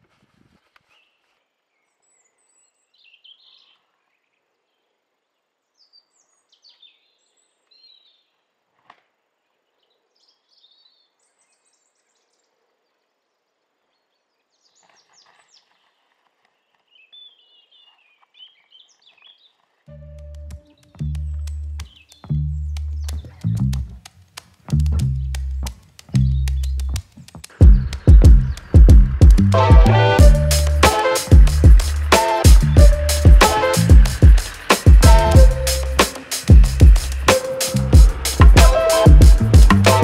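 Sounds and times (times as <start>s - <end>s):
small birds chirping: 0.8s - 8.5s, 9.4s - 19.8s, 20.4s - 40.0s.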